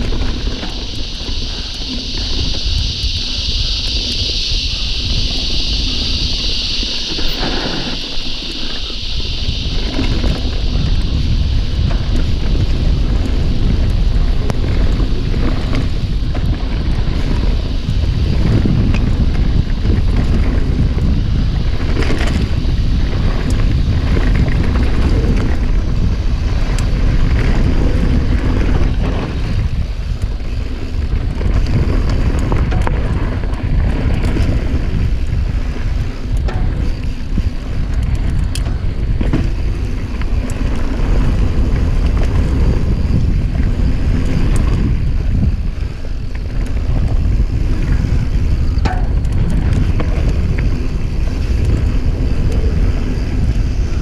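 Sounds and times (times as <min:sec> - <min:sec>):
bike clicks and rattles: 0:00.0 - 0:54.0
bike tyres rolling on dirt: 0:00.0 - 0:54.0
wind buffeting microphone: 0:00.0 - 0:54.0.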